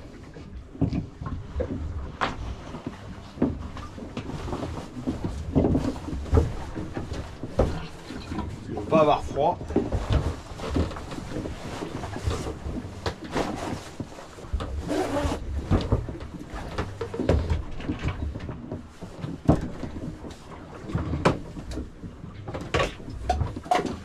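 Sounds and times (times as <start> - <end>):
waterproof jacket rustling: 2.4 - 22.2.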